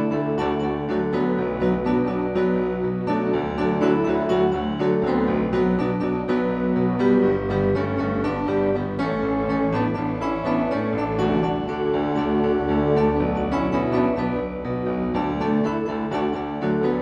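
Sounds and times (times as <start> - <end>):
electronic keyboard piano playing: 0.0 - 17.0.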